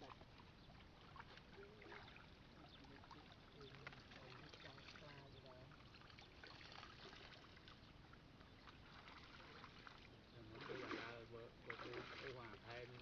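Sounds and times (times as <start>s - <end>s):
distant voices: 1.2s - 13.0s.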